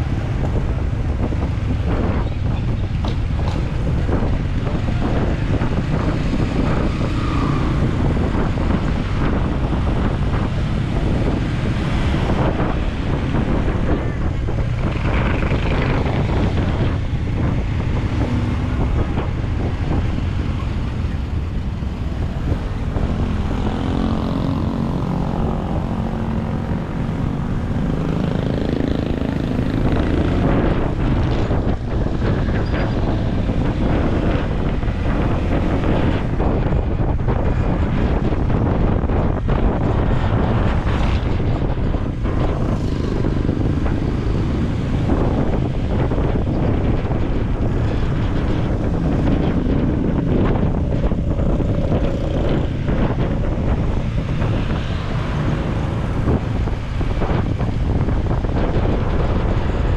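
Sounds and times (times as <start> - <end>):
surrounding traffic: 0.0 - 59.9
wind buffeting microphone: 0.0 - 59.9.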